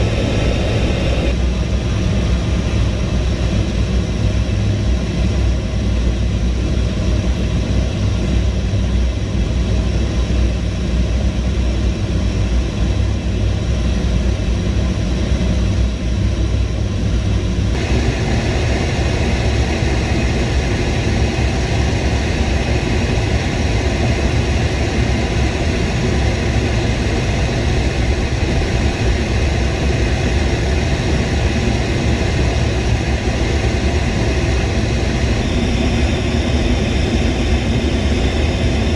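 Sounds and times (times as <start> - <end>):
aircraft engines rumbling: 0.0 - 38.9.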